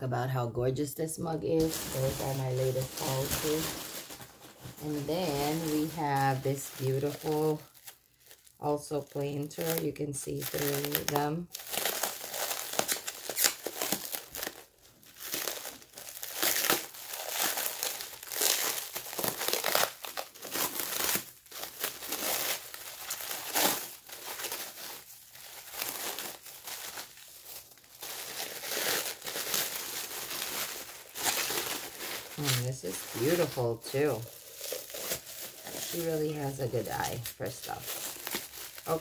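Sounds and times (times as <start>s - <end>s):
packing wrap crinkling: 1.2s - 39.0s.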